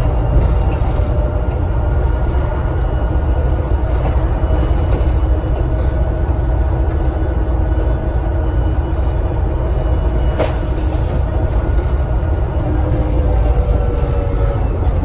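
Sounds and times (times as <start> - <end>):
bus diesel engine rumbling: 0.0 - 15.0.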